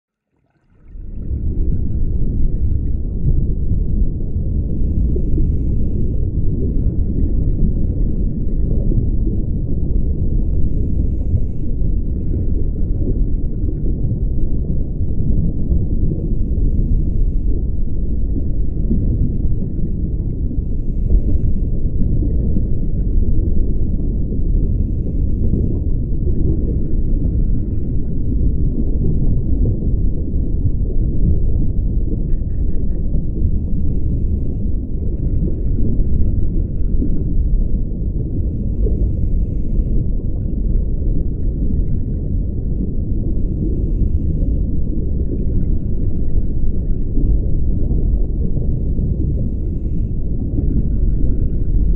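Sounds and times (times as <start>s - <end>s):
low underwater rumble: 0.2s - 51.9s.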